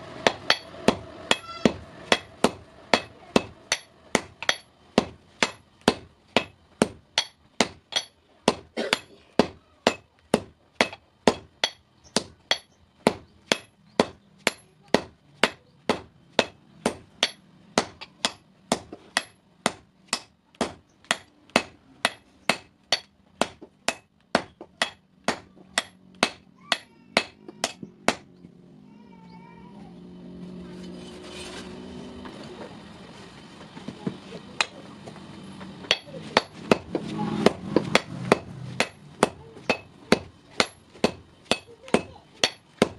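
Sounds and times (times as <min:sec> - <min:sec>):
hammer striking steel on anvil: 0:00.2 - 0:28.3, 0:35.8 - 0:42.9.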